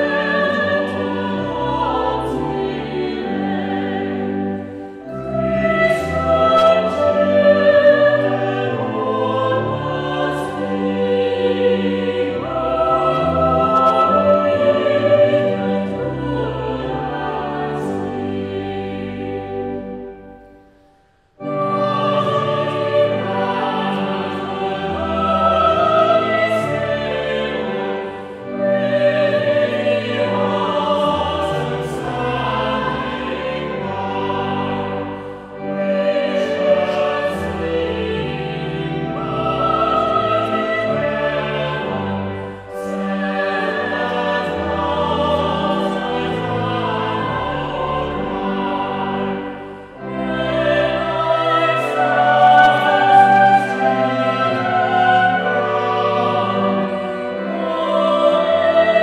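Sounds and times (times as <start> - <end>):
choir singing a carol: 0.0 - 59.0
instrumental accompaniment: 0.0 - 59.0.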